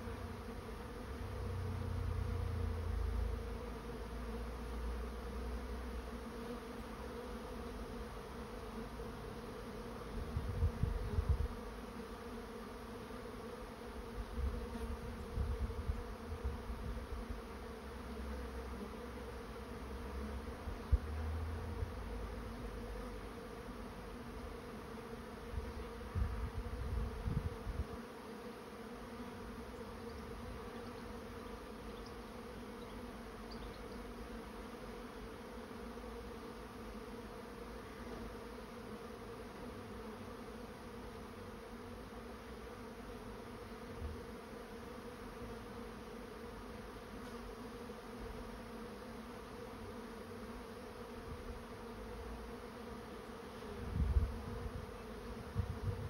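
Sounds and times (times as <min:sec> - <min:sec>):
bee swarm buzzing: 0:00.0 - 0:56.0.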